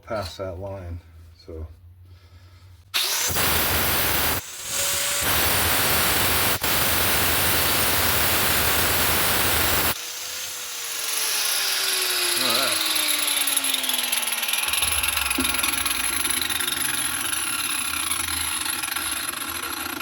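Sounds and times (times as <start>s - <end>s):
angle grinder cutting steel: 3.0s - 20.0s.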